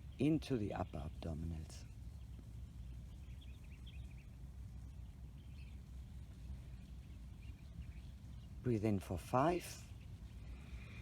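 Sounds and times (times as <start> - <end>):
faint bird chirps: 0.0 - 11.0
low background rumble: 0.0 - 11.0.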